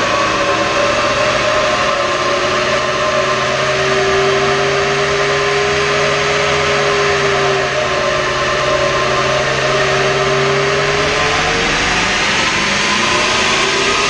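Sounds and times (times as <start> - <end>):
car engine running under load: 0.0 - 14.0
steady whir of rollers: 0.0 - 14.0.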